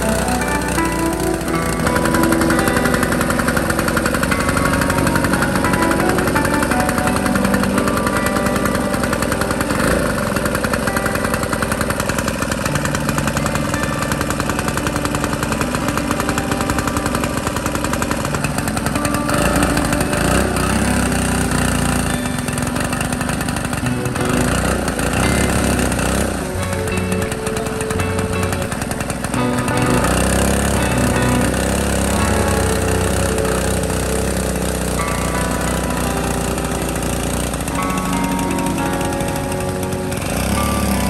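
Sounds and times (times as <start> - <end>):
small diesel engine running: 0.0 - 41.0.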